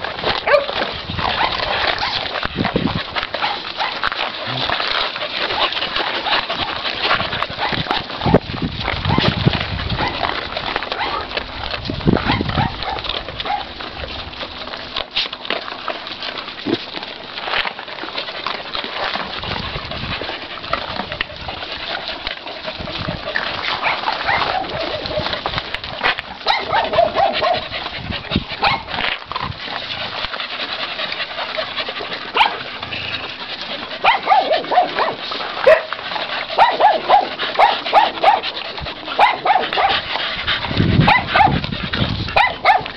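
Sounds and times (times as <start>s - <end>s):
dogs crunching kibble from bowls: 0.0s - 42.9s.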